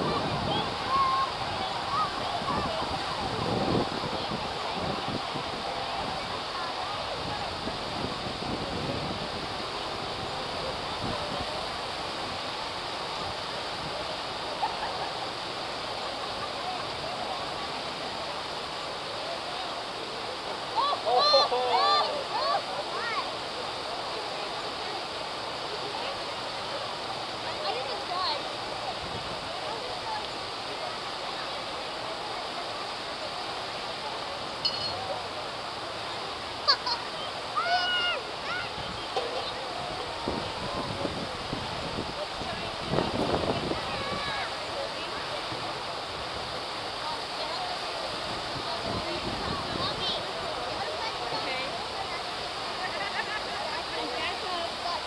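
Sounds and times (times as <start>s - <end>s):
fountain water splashing into pool: 0.0s - 55.0s.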